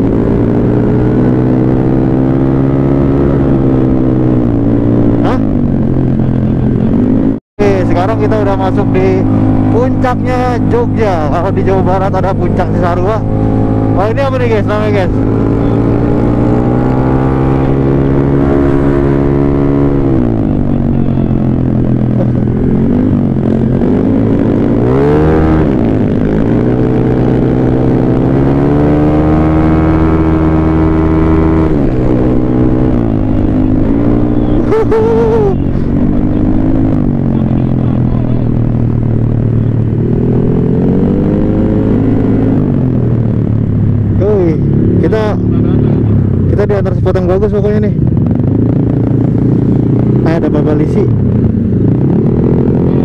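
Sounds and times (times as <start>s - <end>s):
scooter engine revving: 0.0s - 53.0s
wind and road noise: 0.0s - 53.0s.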